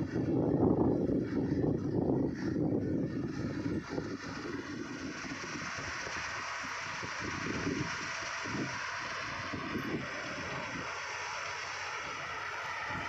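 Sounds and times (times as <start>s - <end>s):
combine harvester running: 0.0s - 13.0s
wind buffeting microphone: 0.0s - 13.0s.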